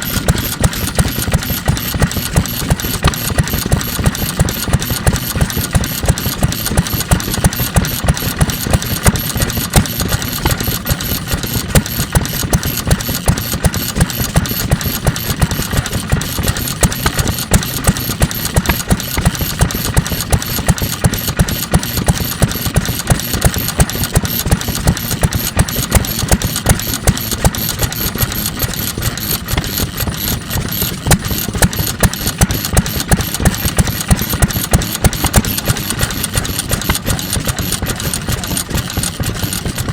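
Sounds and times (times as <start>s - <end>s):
stationary oil engine running: 0.0s - 39.9s.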